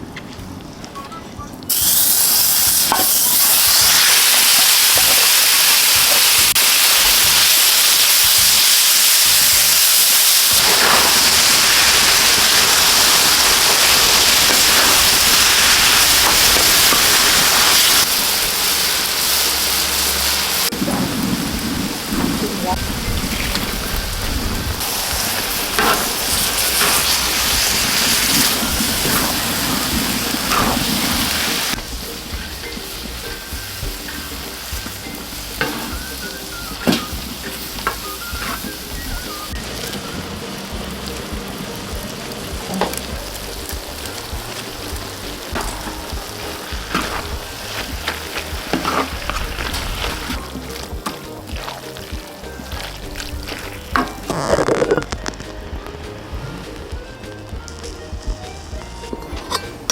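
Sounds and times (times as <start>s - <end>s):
meat sizzling in a hot pan: 1.7s - 56.0s.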